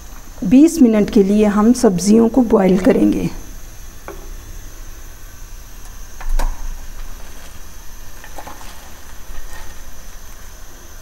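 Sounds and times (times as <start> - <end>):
stock boiling: 0.0 - 11.0.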